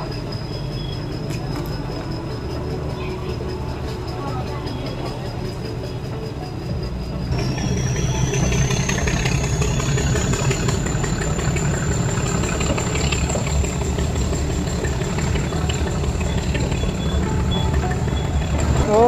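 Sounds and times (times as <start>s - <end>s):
train engine rumble: 0.0s - 19.0s.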